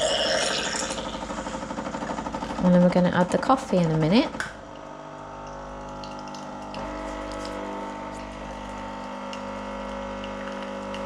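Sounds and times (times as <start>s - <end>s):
coffee machine pump humming: 0.0s - 11.0s.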